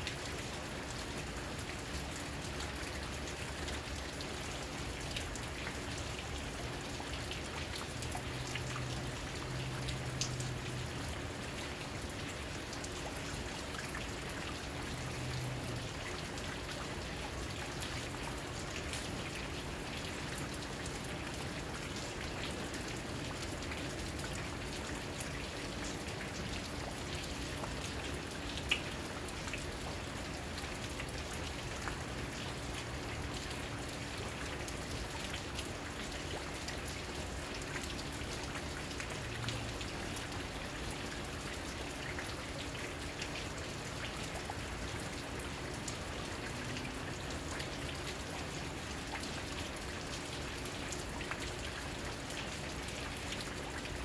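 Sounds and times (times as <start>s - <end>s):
rain drops ticking on surfaces: 0.0s - 54.0s.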